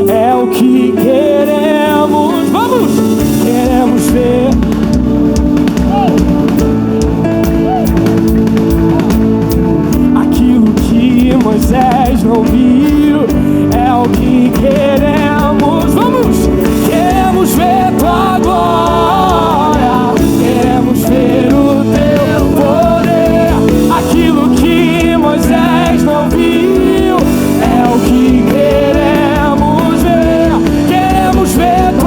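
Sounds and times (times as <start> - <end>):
person singing wordless melody: 0.0 - 8.2, 9.8 - 32.0
drum kit beat: 0.0 - 32.0.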